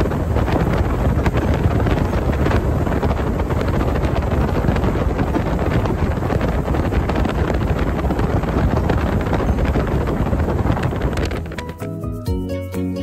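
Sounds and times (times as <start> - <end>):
boat motor running: 0.0 - 12.1
wind buffeting microphone: 0.0 - 12.2.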